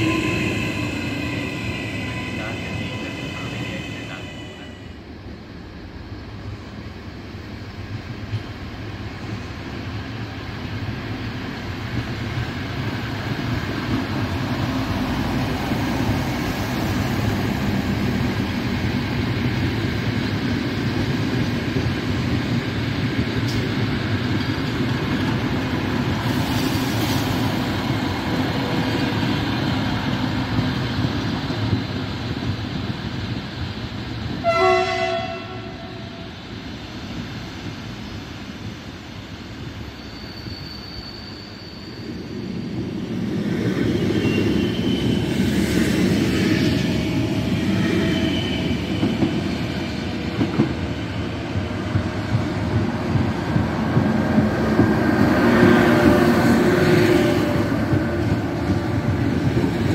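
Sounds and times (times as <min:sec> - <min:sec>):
diesel train engine and wheel rumble: 0:00.0 - 0:59.9.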